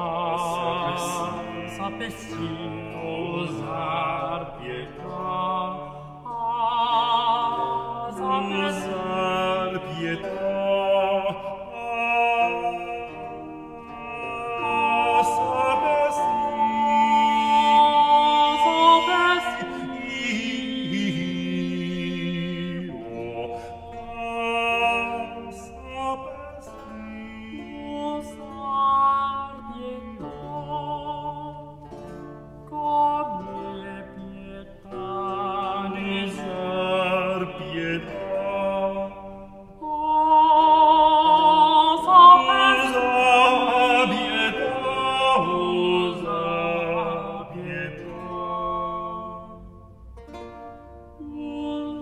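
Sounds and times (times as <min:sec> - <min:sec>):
tenor and bass voices singing: 0:00.0 - 0:31.6, 0:32.7 - 0:49.8
continuo accompaniment: 0:00.0 - 0:52.0.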